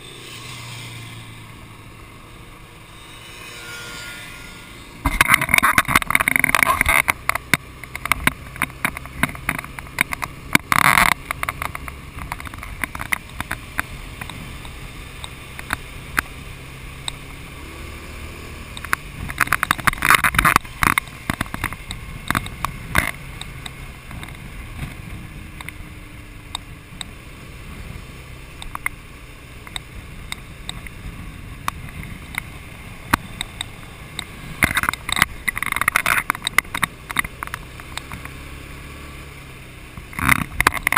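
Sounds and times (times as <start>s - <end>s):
motorcycle engine hum: 0.0s - 40.9s.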